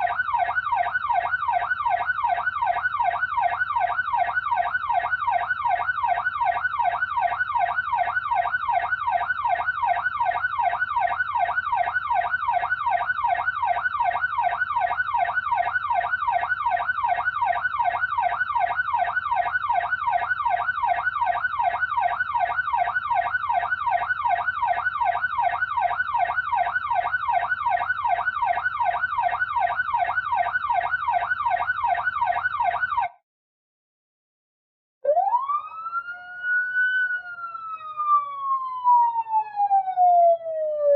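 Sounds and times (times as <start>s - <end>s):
police siren yelping: 0.0s - 33.2s, 35.0s - 40.9s
siren rising wail: 0.0s - 33.2s, 35.0s - 40.9s.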